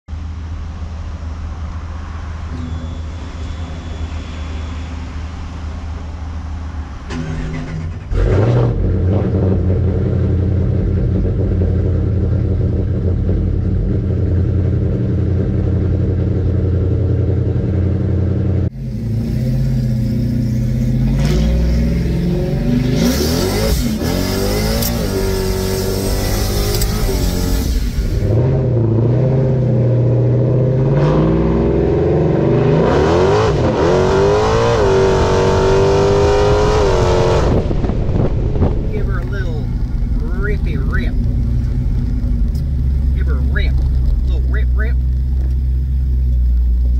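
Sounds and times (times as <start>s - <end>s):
truck engine revving: 1.5s - 46.9s.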